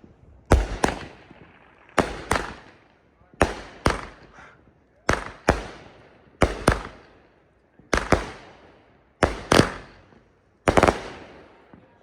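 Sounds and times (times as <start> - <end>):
fireworks bangs with echo: 0.5 - 12.0.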